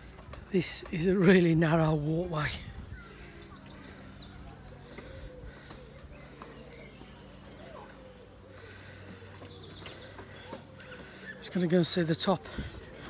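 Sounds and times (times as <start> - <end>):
songbird chirps and trill: 1.3 - 12.4.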